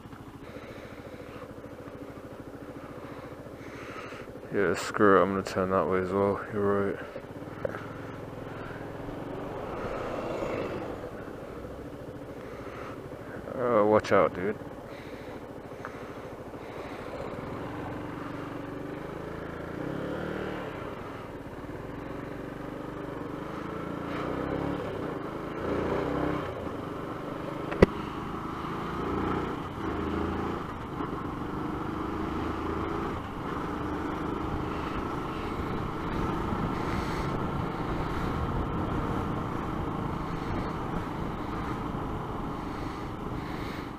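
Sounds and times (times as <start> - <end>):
motorcycle engine running: 0.0 - 43.9
road noise: 0.0 - 43.9.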